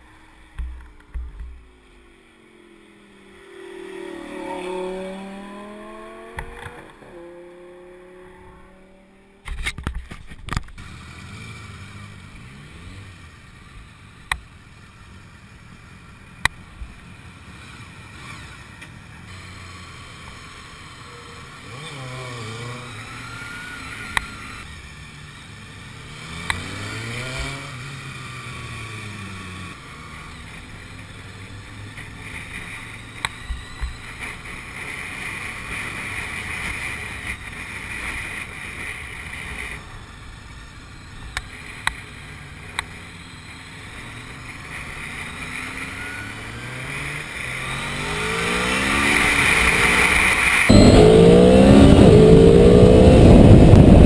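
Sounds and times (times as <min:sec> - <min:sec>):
wind and road rush: 0:00.0 - 0:54.0
motorcycle engine revving: 0:02.5 - 0:09.5, 0:10.7 - 0:14.0, 0:17.5 - 0:39.8, 0:41.7 - 0:54.0.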